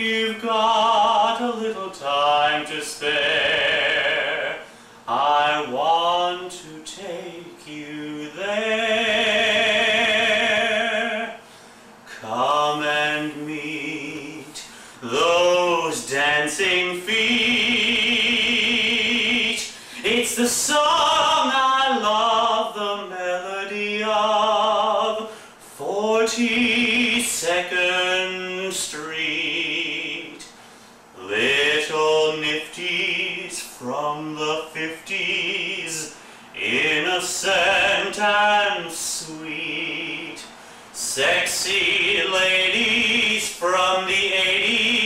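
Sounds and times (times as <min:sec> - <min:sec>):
man singing unaccompanied: 0:00.0 - 0:45.0.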